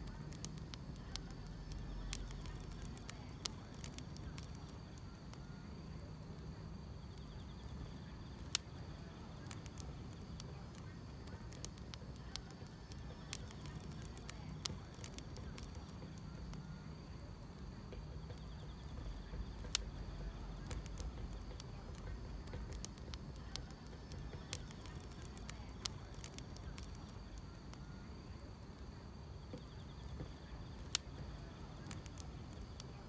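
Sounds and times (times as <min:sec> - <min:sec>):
insects trilling: 0:00.0 - 0:33.0
low steady rumble: 0:00.0 - 0:33.0
wood fire crackling and popping: 0:00.0 - 0:33.0.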